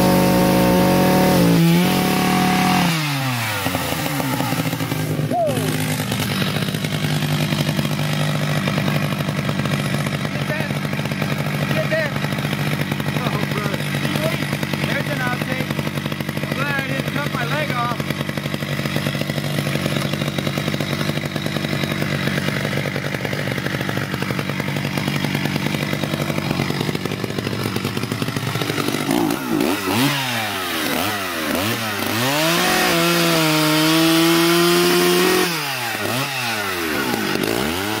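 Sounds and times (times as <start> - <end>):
chainsaw idling and revving: 0.0 - 38.0.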